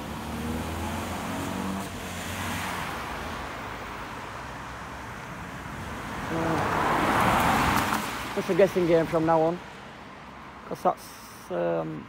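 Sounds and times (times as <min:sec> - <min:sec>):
car passing: 0:00.0 - 0:11.4.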